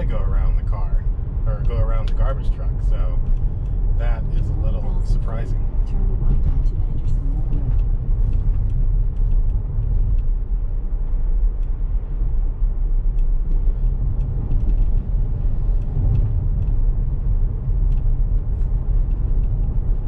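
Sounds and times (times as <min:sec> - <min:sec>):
road and tyre rumble in car: 0:00.0 - 0:20.0.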